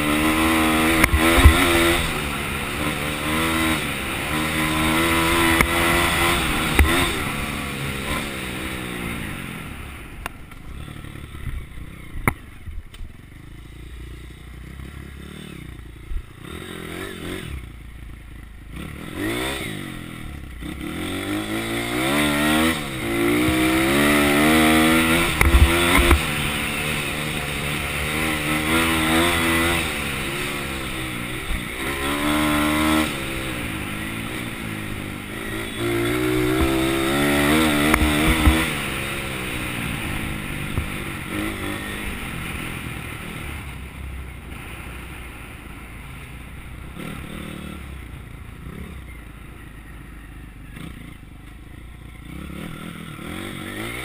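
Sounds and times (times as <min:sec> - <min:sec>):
motorbike engine revving: 0:00.0 - 0:12.7, 0:13.8 - 0:45.5, 0:46.8 - 0:49.7, 0:50.4 - 0:54.0.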